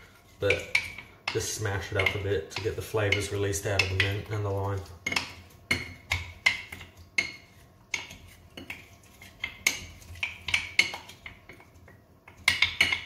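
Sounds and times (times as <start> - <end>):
wooden spoon knocking in glass: 0.5 - 8.8, 9.4 - 13.0.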